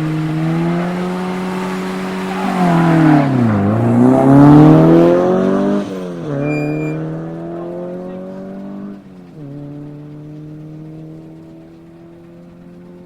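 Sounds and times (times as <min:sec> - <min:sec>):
rally car accelerating: 0:00.0 - 0:13.0.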